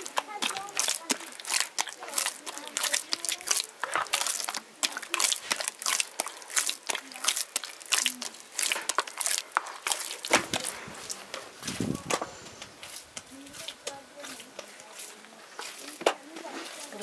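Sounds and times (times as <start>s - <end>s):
hands kneading dough: 0.0s - 17.0s.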